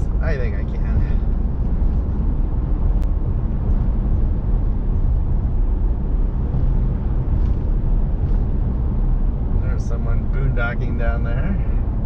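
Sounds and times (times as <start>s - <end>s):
vehicle cabin road rumble: 0.0s - 12.0s.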